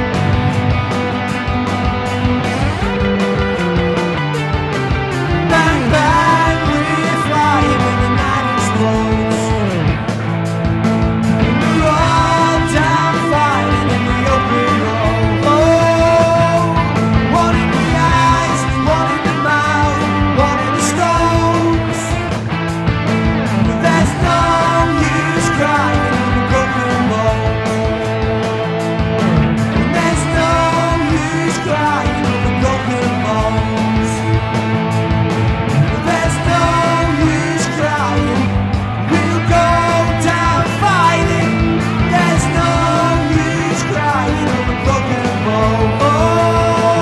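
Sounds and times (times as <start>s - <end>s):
bass guitar: 0.0s - 47.0s
drums: 0.0s - 47.0s
lead guitar with bending notes: 0.0s - 47.0s.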